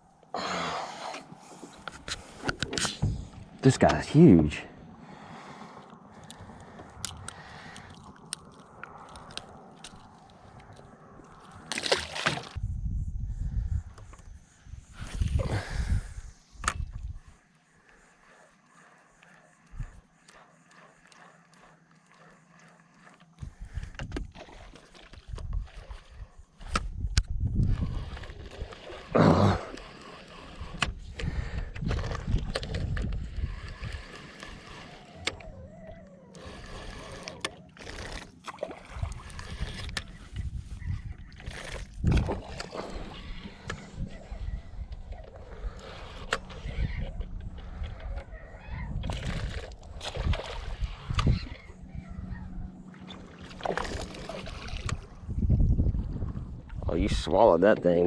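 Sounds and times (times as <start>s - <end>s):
water sloshing against boat: 1.0s - 12.6s, 14.0s - 58.0s.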